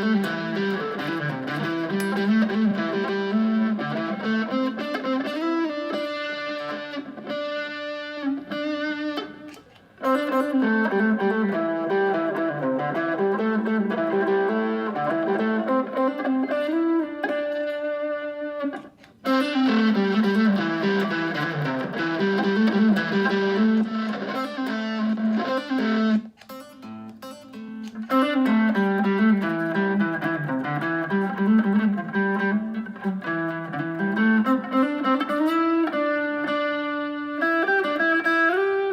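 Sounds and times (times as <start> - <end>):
electric guitar melody with effects: 0.0 - 38.9.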